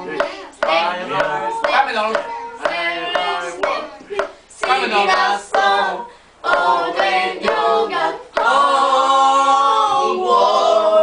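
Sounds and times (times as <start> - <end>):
cartoonish voices singing a cappella: 0.0 - 11.0.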